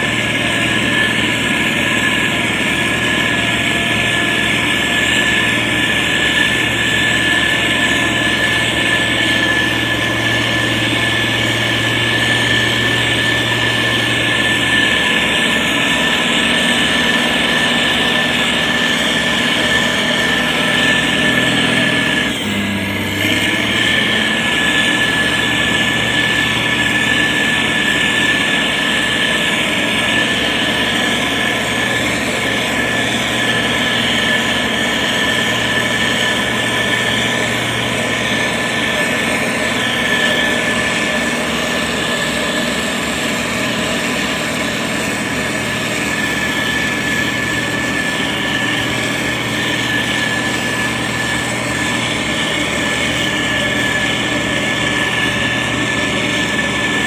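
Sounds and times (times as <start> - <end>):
constant high whine: 0.0 - 57.0
diesel engine running: 0.0 - 57.0.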